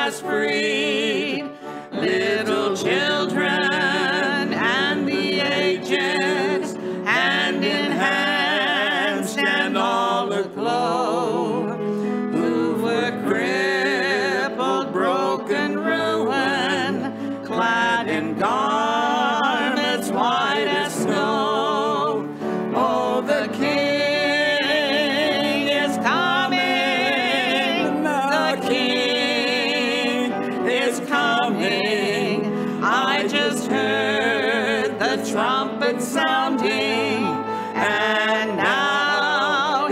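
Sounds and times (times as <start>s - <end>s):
choir singing a gospel hymn: 0.0s - 39.9s.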